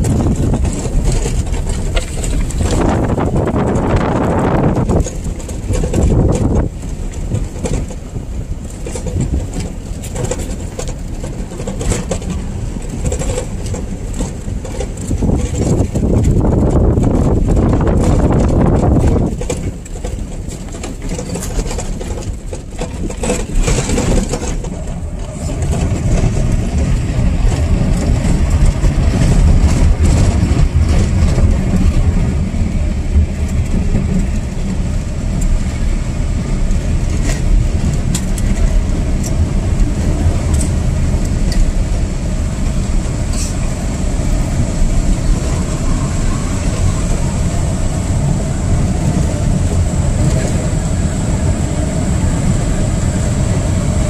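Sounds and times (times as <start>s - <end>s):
car road rumble: 0.0s - 54.0s.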